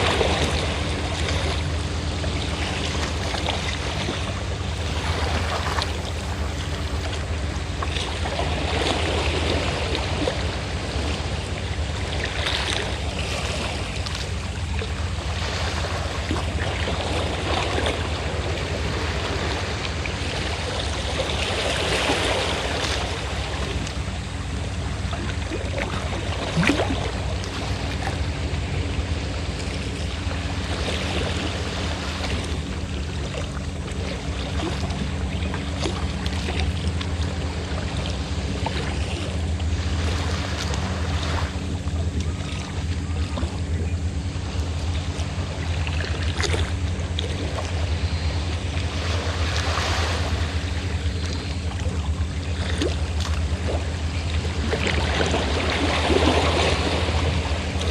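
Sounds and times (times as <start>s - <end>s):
boat engine hum: 0.0s - 57.9s
sea waves washing ashore: 0.0s - 57.9s.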